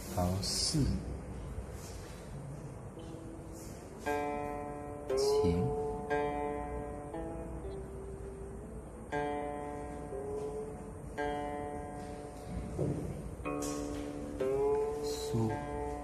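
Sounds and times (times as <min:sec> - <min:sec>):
slow plucked string music: 0:00.0 - 0:16.0.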